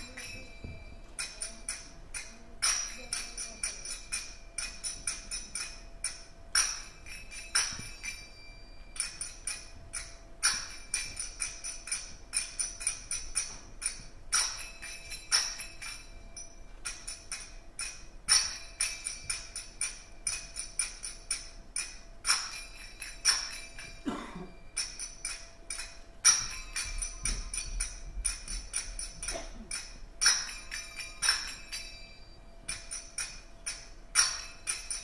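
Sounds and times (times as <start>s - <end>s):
finger cymbals ringing strikes: 0.0s - 35.0s.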